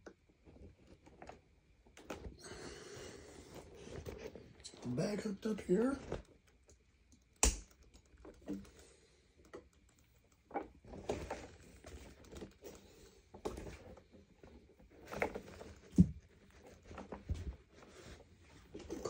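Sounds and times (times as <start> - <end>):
vacuum cord winding handling noise: 3.5 - 19.0.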